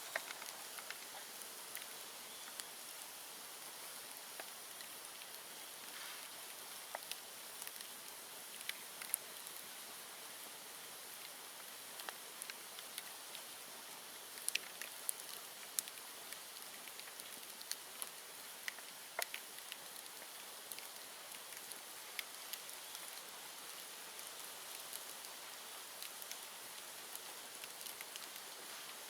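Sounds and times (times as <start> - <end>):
bonfire hissing: 0.0 - 23.1, 25.4 - 29.0
fire crackles and pops: 0.0 - 29.0.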